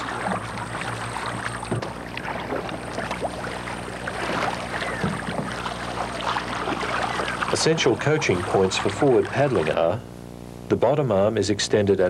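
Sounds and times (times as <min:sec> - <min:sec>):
paddles swishing through water: 0:00.0 - 0:10.0
water along hull: 0:00.0 - 0:10.1
steady low hum: 0:00.0 - 0:12.0.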